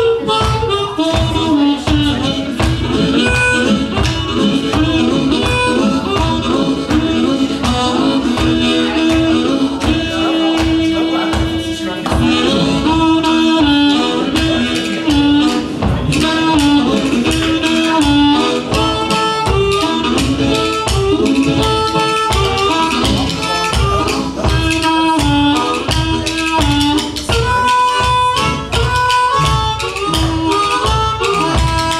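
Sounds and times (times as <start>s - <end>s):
amplified blues harmonica: 0.0s - 31.9s
band playing a steady beat: 0.0s - 31.9s.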